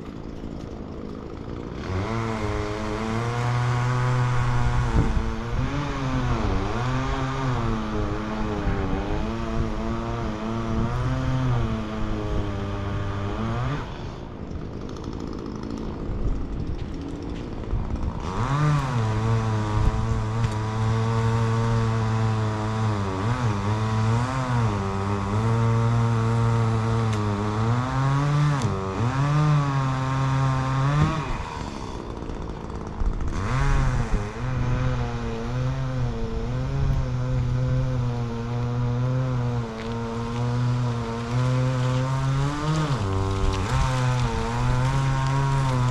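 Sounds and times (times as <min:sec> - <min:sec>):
engine running at high revs: 0:01.3 - 0:45.9.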